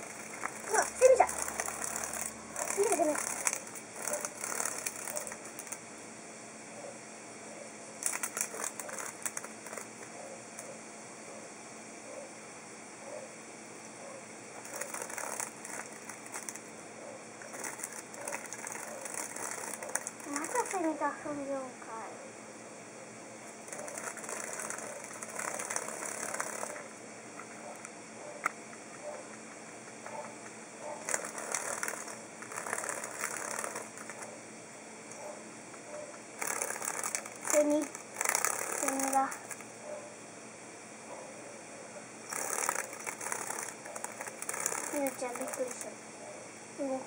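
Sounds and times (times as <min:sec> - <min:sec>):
cicada crackling and rattling: 0:00.0 - 0:11.4, 0:12.0 - 0:47.0.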